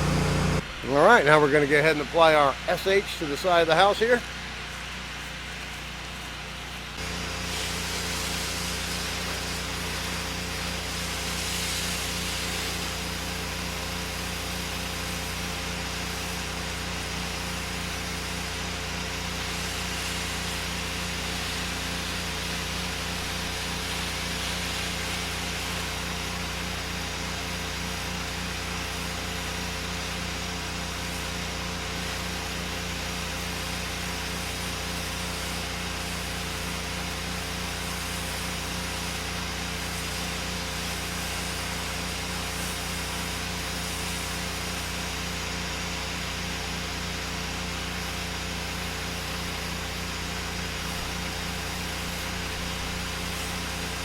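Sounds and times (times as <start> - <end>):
pressure washer engine: 0.0 - 54.0
spray wand hissing: 2.8 - 54.0.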